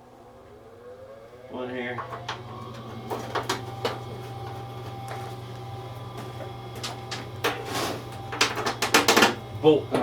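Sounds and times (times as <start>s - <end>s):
steady low hum: 0.1s - 10.0s.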